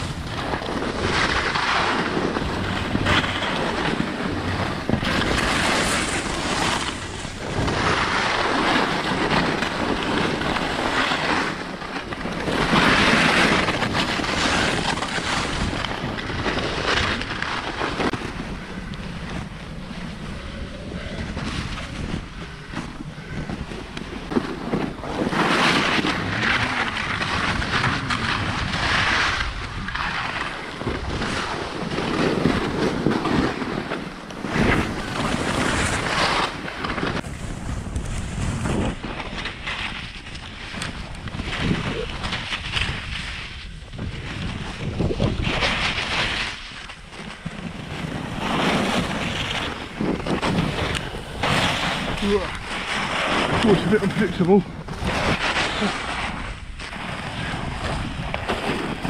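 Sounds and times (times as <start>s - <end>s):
skis carving through snow: 0.0s - 59.0s
wind on microphone: 0.0s - 59.0s.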